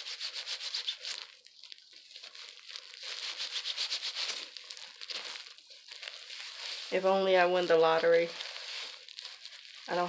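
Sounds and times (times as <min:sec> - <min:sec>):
plastic gloves crinkling: 0:00.0 - 0:10.0.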